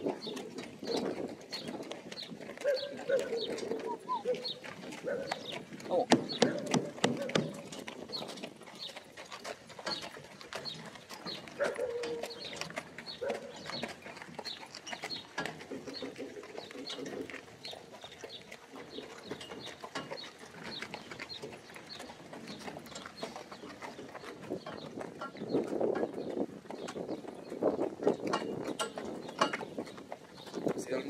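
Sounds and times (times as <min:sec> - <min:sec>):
hooves clip-clopping on dirt: 0:00.0 - 0:31.0.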